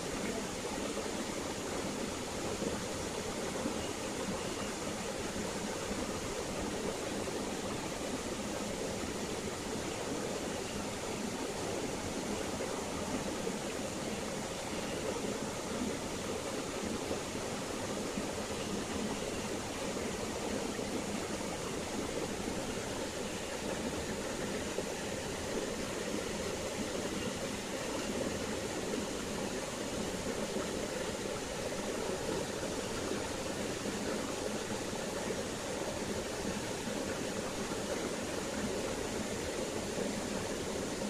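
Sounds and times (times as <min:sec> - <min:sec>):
stream flowing over stones: 0:00.0 - 0:41.0.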